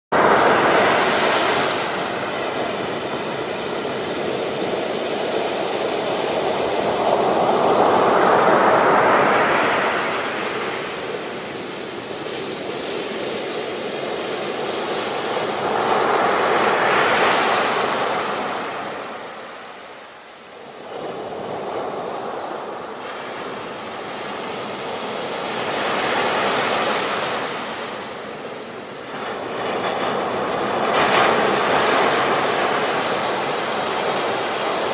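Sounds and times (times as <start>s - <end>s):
ocean waves breaking on beach: 0.1s - 34.9s.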